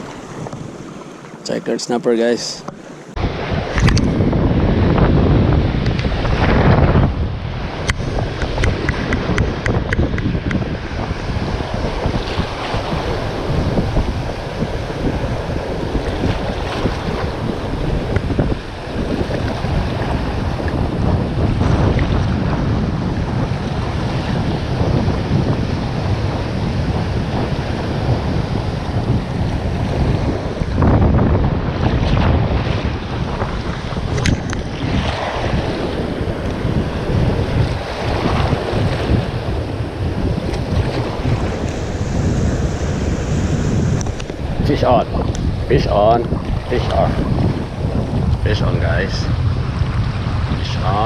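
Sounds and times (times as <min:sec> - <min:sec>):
surf washing on shore: 0:00.0 - 0:51.0
wind buffeting microphone: 0:00.0 - 0:51.0.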